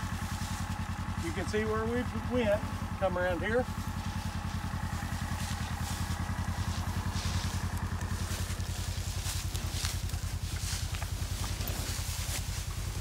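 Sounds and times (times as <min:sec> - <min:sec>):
hay crackling: 0:00.0 - 0:13.0
vehicle engine idling: 0:00.0 - 0:13.0.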